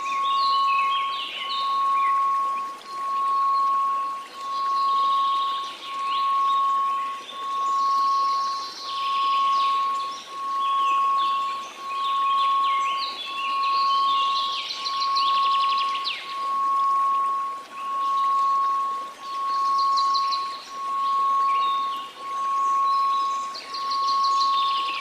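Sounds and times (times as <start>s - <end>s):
birdsong chirps and trills: 0.0s - 25.0s
faint hiss: 0.0s - 25.0s
synthesized tone: 0.0s - 25.0s.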